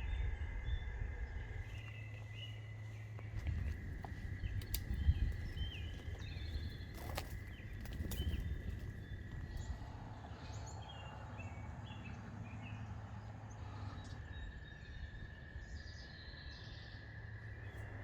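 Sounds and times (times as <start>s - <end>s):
wind rumble on microphone: 0.0s - 16.2s.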